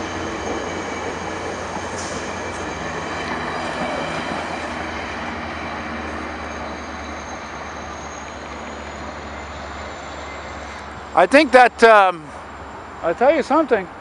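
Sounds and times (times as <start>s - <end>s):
train wheels rolling on rails: 0.0s - 11.6s.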